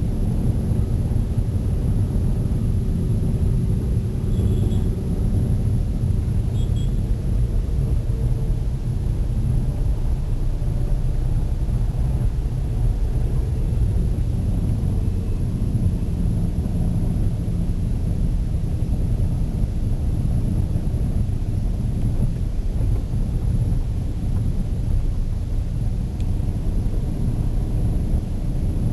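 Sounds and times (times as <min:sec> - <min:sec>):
car engine rumble: 0:00.0 - 0:28.9
road noise: 0:00.0 - 0:28.9.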